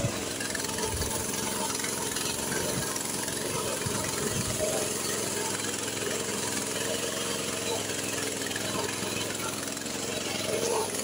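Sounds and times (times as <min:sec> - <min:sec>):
small tractor engine running: 0:00.0 - 0:11.0.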